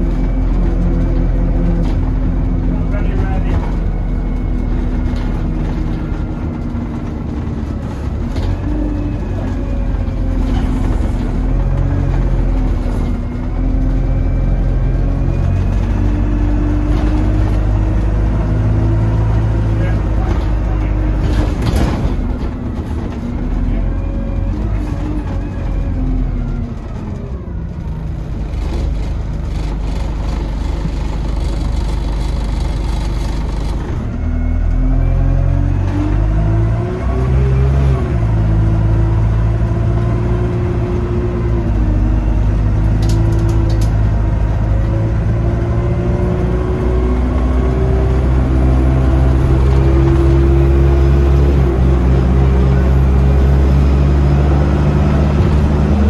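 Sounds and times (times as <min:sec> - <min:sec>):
bus engine: 0:00.0 - 0:56.0.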